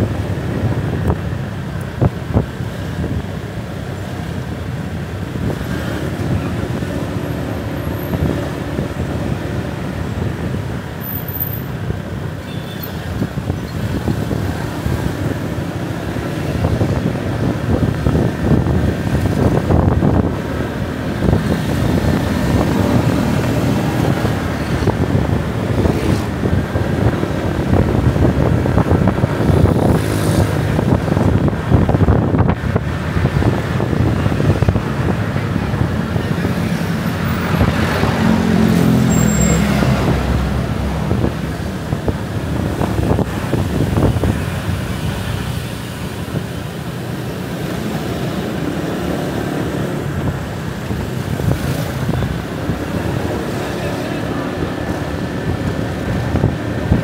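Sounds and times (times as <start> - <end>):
motorcycle engine and tyre rumble: 0.0 - 57.0
passing traffic: 0.0 - 57.0.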